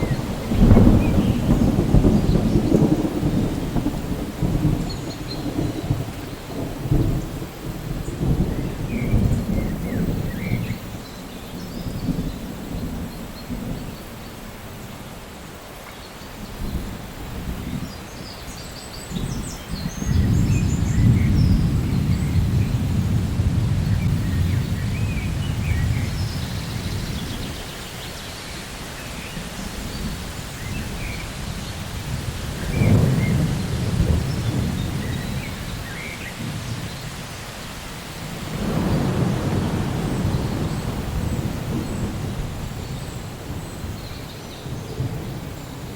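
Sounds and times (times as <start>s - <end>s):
rolling thunder: 0.0s - 14.2s, 19.0s - 45.9s
steady rain: 0.0s - 45.9s.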